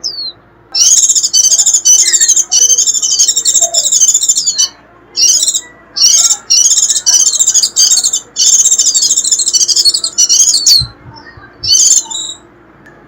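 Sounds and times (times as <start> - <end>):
bird twittering: 0.0 - 12.5.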